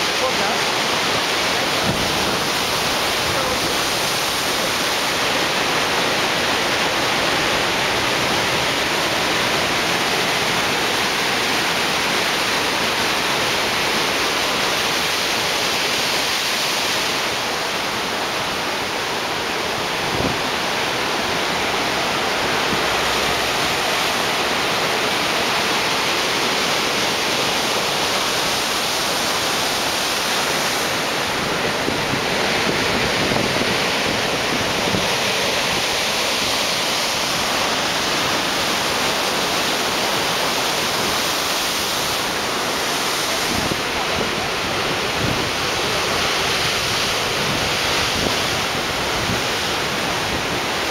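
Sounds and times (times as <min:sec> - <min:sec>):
ocean waves breaking on rocks: 0:00.0 - 0:50.9.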